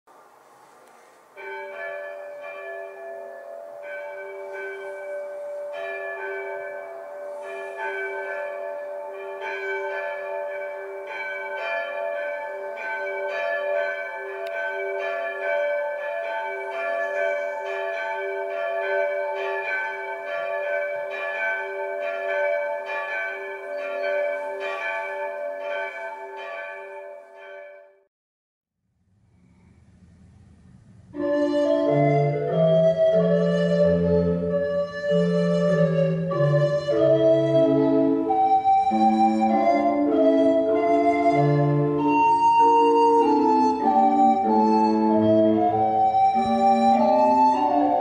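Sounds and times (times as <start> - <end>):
church bells ringing: 0.2 - 28.1, 31.1 - 48.0.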